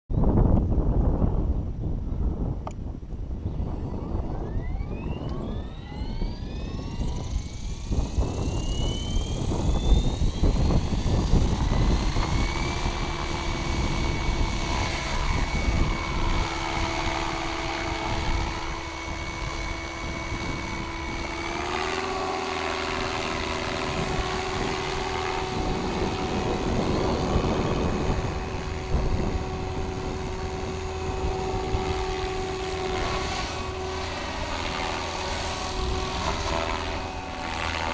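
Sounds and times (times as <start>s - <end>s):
rc helicopter motor whine: 0.4s - 37.9s.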